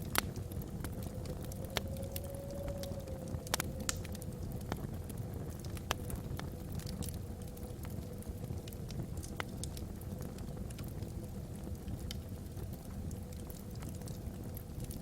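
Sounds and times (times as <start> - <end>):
burning logs crackling and popping: 0.0 - 15.0
low fire rumble: 0.0 - 15.0.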